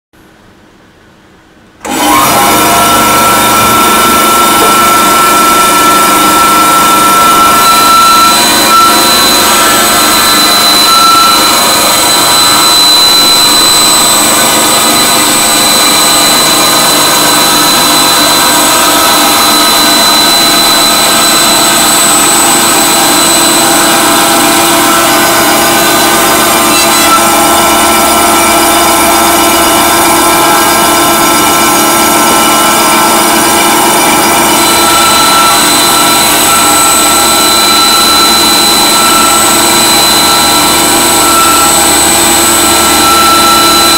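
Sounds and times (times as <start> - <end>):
band saw cutting: 1.8 - 43.9.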